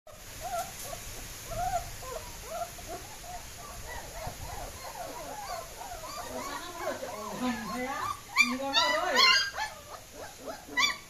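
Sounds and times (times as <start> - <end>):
puppies whining and whimpering: 0.4 - 11.0.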